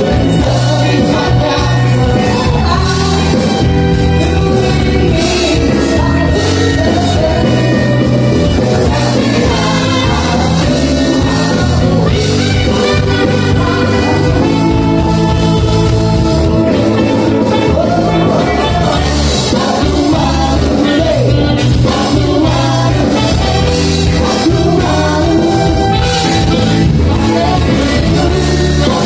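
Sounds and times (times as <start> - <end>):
amplified bass: 0.0 - 29.0
lead singer singing: 0.0 - 29.0
live band playing: 0.0 - 29.0.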